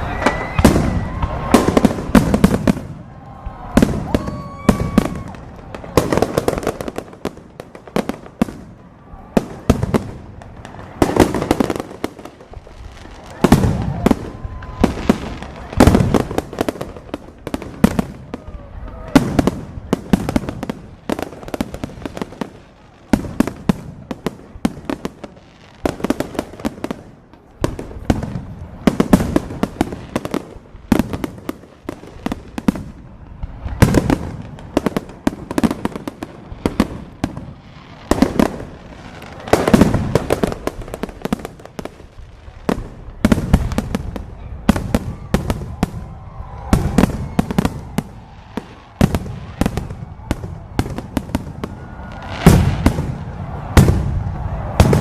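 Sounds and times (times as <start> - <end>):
fireworks bangs and crackles: 0.0 - 55.0
fireworks booms: 0.0 - 55.0.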